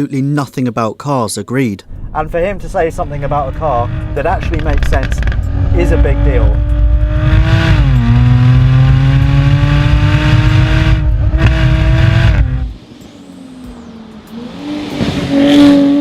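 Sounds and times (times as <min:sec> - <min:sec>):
car engine accelerating: 0:01.9 - 0:16.0.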